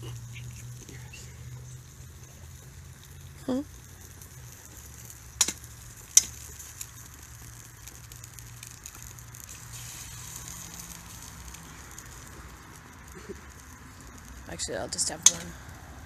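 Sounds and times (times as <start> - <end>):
eggs sizzling in a pan: 0.0 - 16.0.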